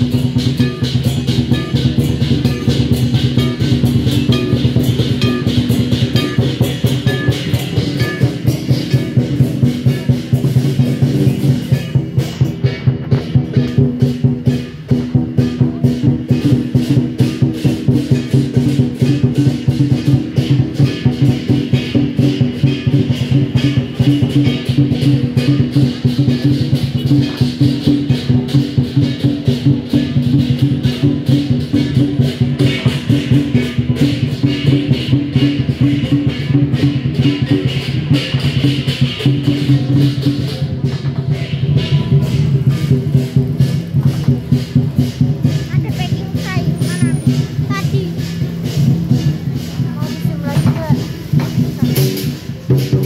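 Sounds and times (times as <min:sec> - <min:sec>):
cymbals crashing: 0:00.0 - 0:53.0
drums beating fast rhythm: 0:00.0 - 0:53.0.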